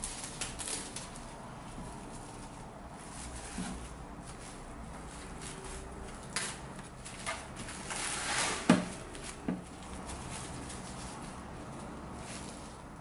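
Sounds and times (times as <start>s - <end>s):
cling film crinkling: 0.0s - 13.0s.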